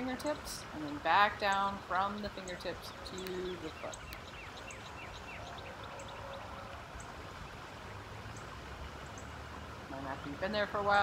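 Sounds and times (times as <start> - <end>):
bird chirping: 0.0 - 10.7
flowing river water: 0.0 - 11.0.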